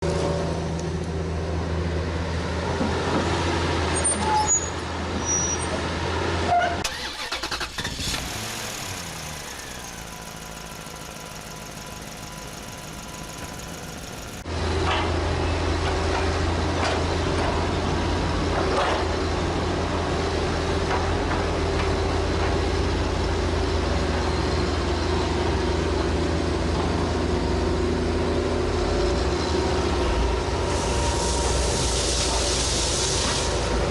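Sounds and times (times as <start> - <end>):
excavator diesel engine running: 6.1 - 33.9.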